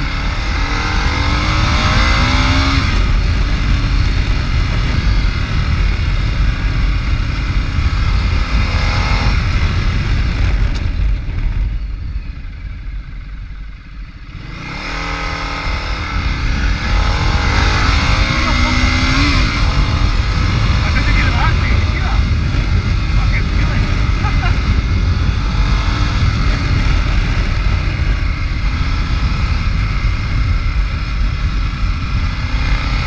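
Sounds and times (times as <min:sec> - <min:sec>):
motorcycle engine accelerating: 0:00.0 - 0:33.0
wind rumble on microphone: 0:00.0 - 0:33.0.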